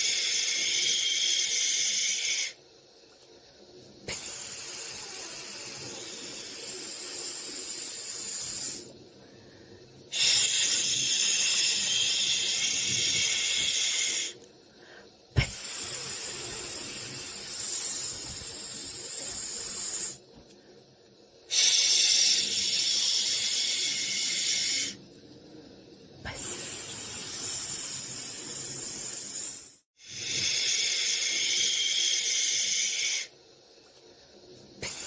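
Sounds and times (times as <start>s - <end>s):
high-pitched hissing white noise: 0.0s - 35.0s.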